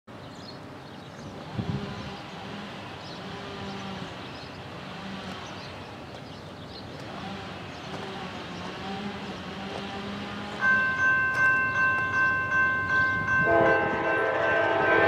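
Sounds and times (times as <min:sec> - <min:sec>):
distant diesel locomotive drone: 0:00.1 - 0:15.0.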